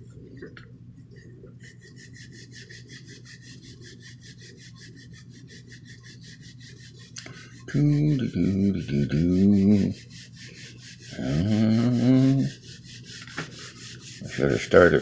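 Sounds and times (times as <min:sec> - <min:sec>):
steady low hum: 0:00.0 - 0:15.0
drawing tool shading on paper: 0:01.1 - 0:15.0.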